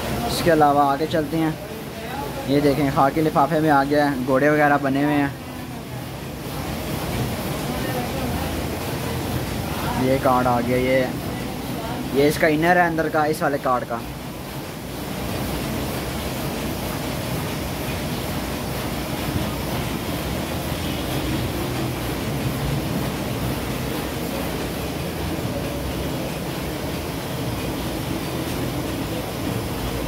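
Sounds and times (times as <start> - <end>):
steady rumbling noise: 0.0 - 30.0.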